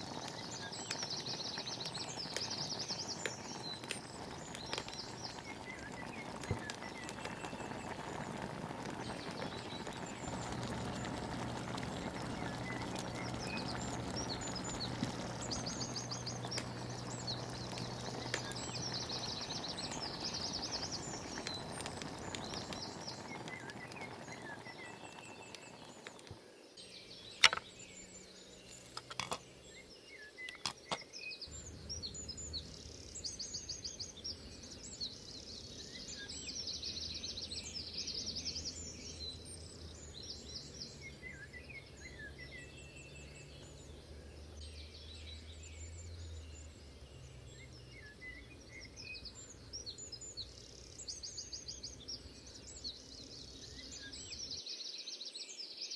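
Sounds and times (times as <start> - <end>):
birds trilling and chirping: 0.0 - 26.4, 27.0 - 54.6.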